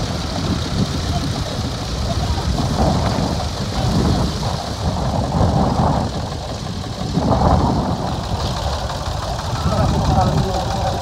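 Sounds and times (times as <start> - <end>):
tractor engines rumbling: 0.0 - 11.0.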